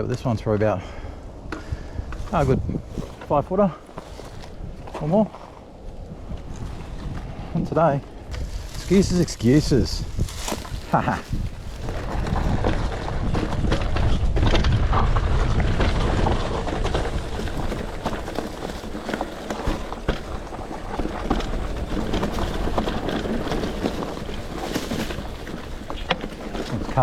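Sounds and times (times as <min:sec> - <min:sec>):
bike tyres and frame rattling: 0:00.0 - 0:27.0
wind rumble on microphone: 0:00.0 - 0:27.0.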